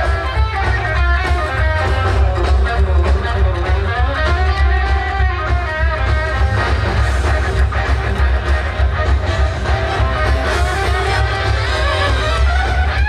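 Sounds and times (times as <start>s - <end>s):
electric guitar music: 0.0s - 13.0s
heavy bass line: 0.0s - 13.0s.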